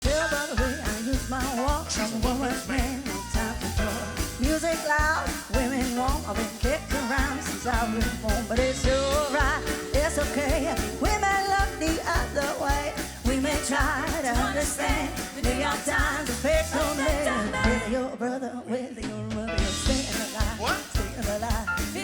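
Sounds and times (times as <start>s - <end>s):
live band playing upbeat music: 0.0s - 18.0s, 19.1s - 22.0s.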